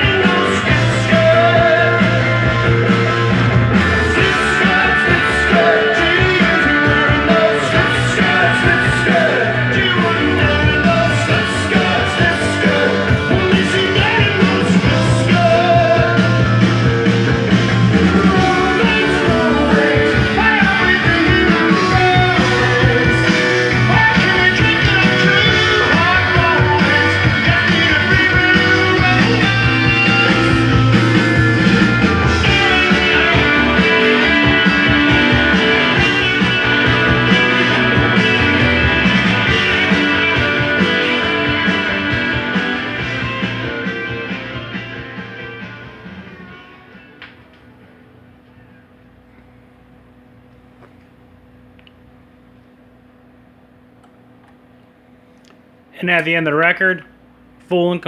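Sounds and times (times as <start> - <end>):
rock song with singing and guitar: 0.0 - 48.7.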